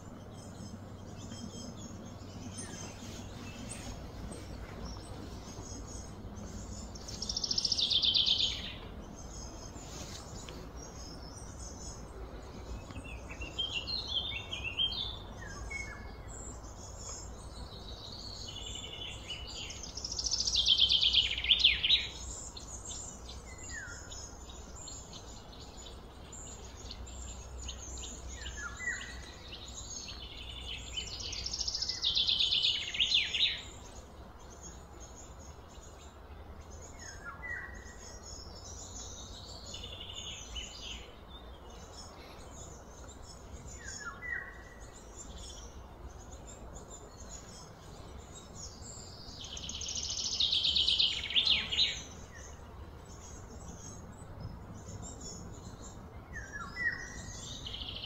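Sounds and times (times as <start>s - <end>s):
bird chirps: 0.0s - 58.0s
birds trilling song: 0.0s - 58.0s
low outdoor hum: 0.0s - 58.0s.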